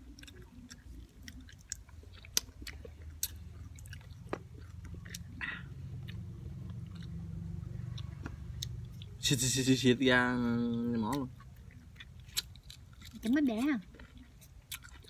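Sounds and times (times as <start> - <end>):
person biting and chewing fruit: 0.0 - 9.3, 10.4 - 15.0.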